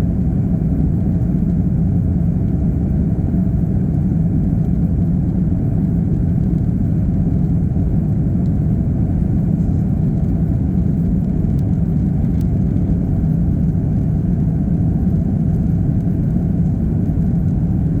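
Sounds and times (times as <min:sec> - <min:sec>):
airliner cabin engine roar: 0:00.0 - 0:18.0.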